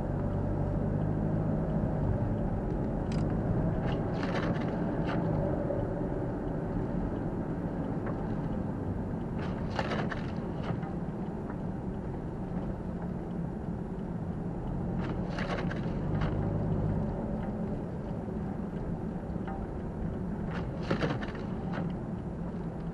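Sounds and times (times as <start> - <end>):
engine and road rumble: 0.0 - 22.9.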